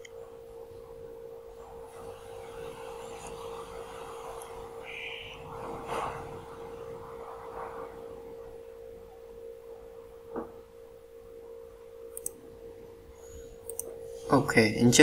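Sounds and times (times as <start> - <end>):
steady mid-pitched hum: 0.0 - 15.0.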